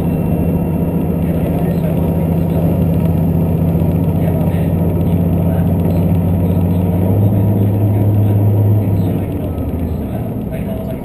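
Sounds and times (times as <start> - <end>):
train engine drone: 0.0 - 11.0
train running noise: 0.0 - 11.0.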